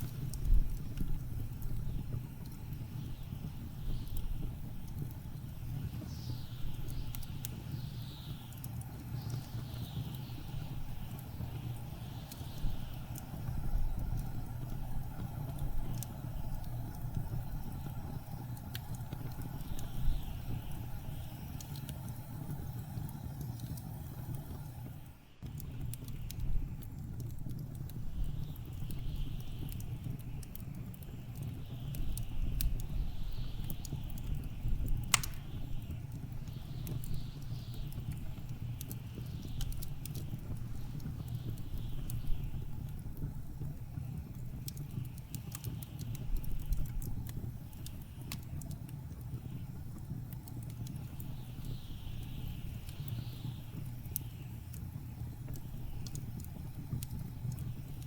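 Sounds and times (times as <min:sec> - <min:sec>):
sharp pops from fire: 0:00.0 - 0:58.0
wood fire crackling: 0:00.0 - 0:58.0.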